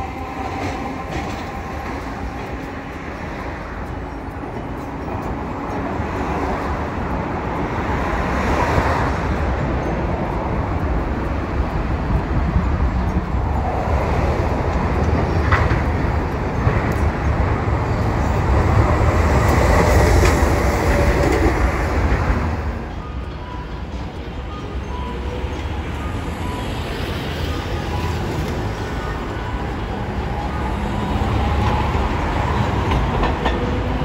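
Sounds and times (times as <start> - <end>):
tram wheel clacks: 0.0 - 34.0
tram wheels rumbling on track: 0.0 - 34.0.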